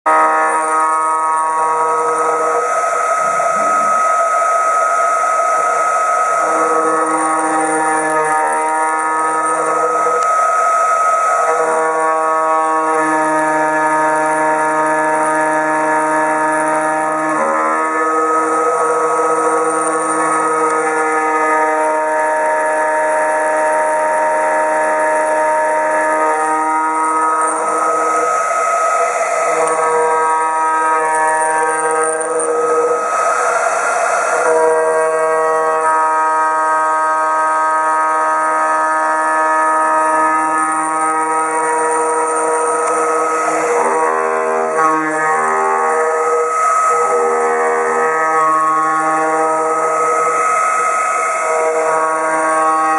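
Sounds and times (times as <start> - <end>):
router spindle whining: 0.0 - 52.9
cutter hissing on stone: 0.1 - 52.9
music of long held chords: 0.1 - 52.9.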